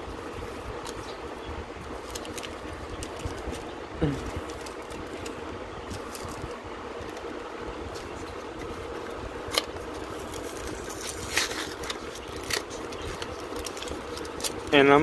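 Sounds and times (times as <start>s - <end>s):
foil packs crinkling: 1.9s - 7.3s, 7.9s - 15.0s.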